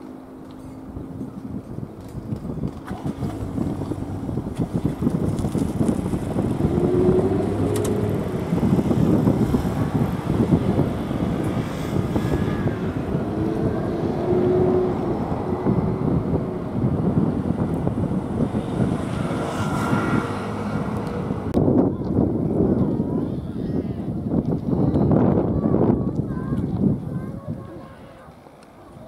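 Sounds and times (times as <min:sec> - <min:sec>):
jet airliner rumble: 0:00.0 - 0:29.0.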